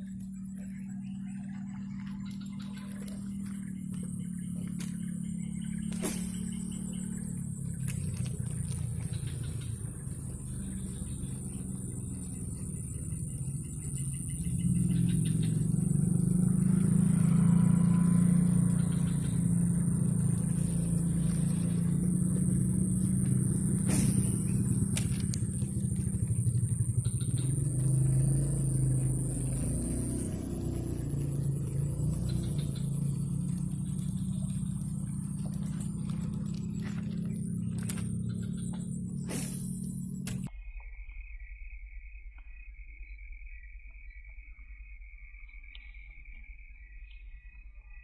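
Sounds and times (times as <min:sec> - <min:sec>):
motor vehicle engine running: 0:00.0 - 0:40.5.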